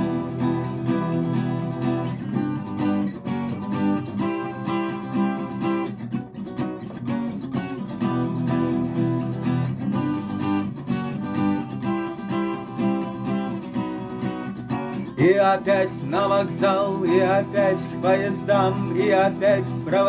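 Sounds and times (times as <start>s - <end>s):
guitar strumming chords: 0.0s - 20.0s.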